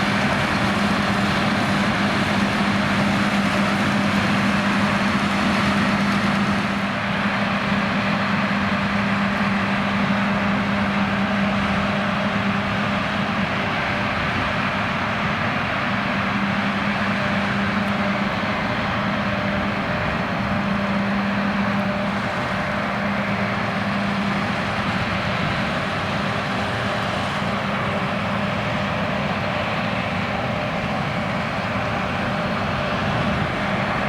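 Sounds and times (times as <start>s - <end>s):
combine harvester drone: 0.0s - 34.0s.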